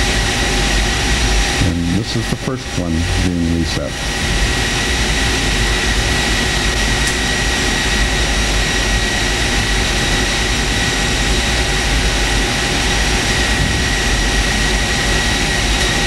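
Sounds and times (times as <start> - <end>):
generator roar with high whine: 0.0 - 16.0.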